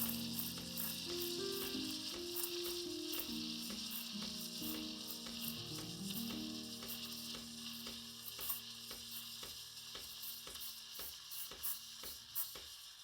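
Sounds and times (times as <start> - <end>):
background music with light beat: 0.0 - 11.2
steam wand hissing: 0.0 - 13.0.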